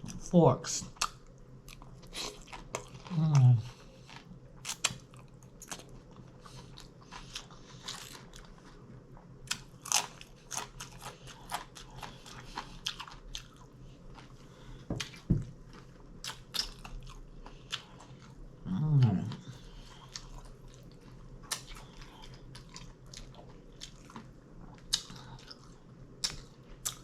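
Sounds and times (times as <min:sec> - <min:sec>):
crunchy chewing: 0:01.0 - 0:08.8, 0:09.4 - 0:18.4, 0:19.2 - 0:27.0.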